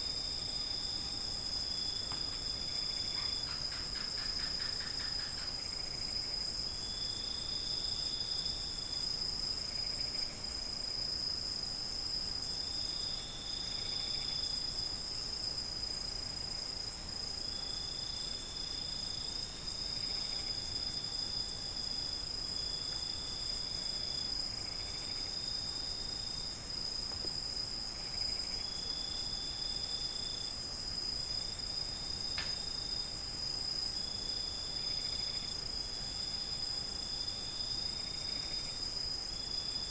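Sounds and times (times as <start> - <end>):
cricket trill: 0.0 - 39.9
crickets droning: 0.0 - 39.9.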